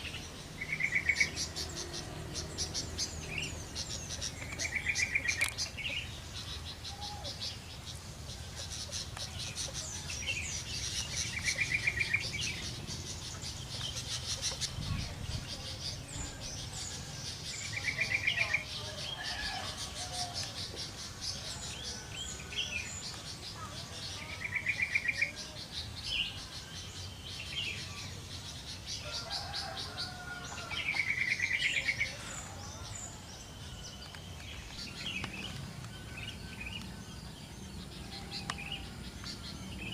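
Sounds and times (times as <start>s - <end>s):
birds chirping: 0.0s - 39.9s
bulbuls singing: 0.0s - 39.9s
insects buzzing: 0.0s - 39.9s.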